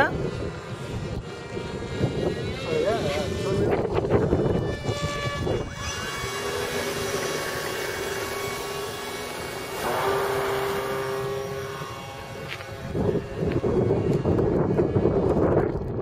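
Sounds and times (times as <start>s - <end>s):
model plane motor droning: 0.0s - 16.0s.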